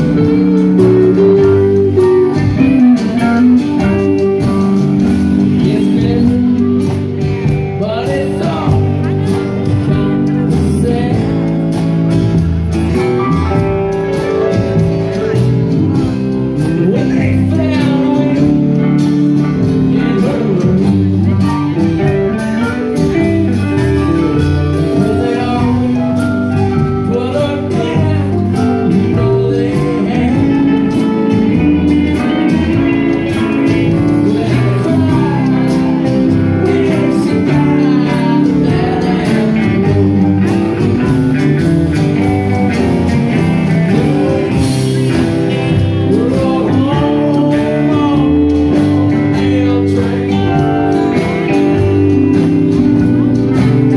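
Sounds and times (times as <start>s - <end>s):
acoustic guitars strumming: 0.0s - 53.9s
drum kit: 0.0s - 53.9s
electric guitars: 0.0s - 53.9s
person singing: 0.0s - 53.9s.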